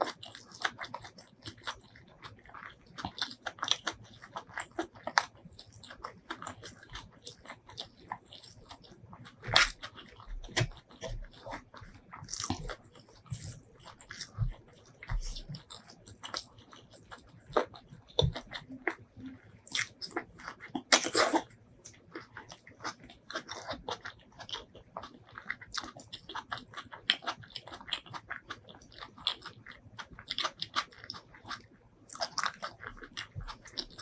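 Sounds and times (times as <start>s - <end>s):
close-miked chewing: 0.0s - 34.0s
food crunching: 0.0s - 34.0s.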